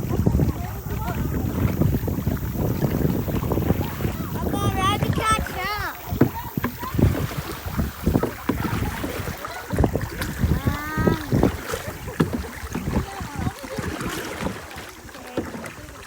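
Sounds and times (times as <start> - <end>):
paddle knocks: 0.0 - 16.0
water splashes: 0.0 - 16.0
wind buffeting microphone: 0.0 - 16.0.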